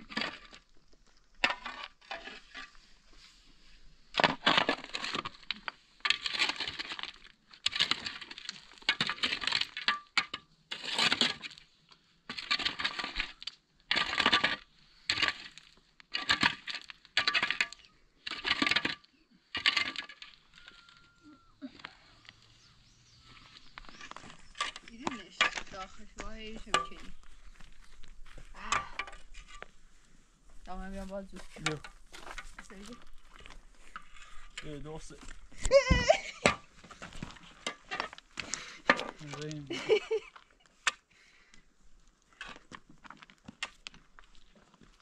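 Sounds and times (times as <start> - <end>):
shovels scraping stony earth: 0.0 - 0.8, 1.4 - 41.1, 42.0 - 45.0
stones crunching: 0.0 - 3.2, 3.8 - 45.0.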